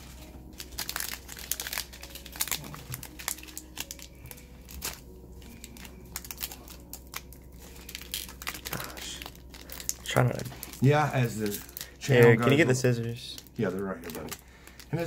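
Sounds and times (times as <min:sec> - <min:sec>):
foil wrapper crinkling and tearing: 0:00.0 - 0:15.0.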